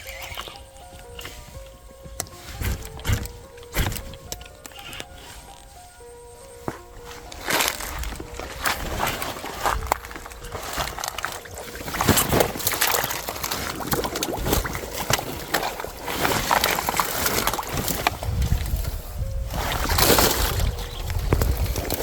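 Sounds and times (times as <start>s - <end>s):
water sloshing and splashing: 0.0s - 5.8s, 6.7s - 22.0s.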